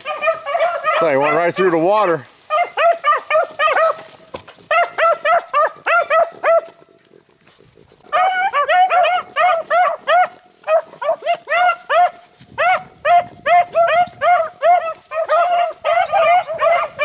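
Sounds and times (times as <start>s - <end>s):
hounds baying: 0.0s - 17.0s.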